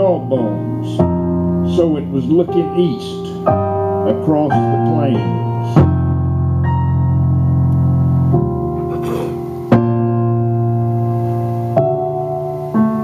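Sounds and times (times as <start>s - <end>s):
digital piano chords: 0.0s - 13.0s.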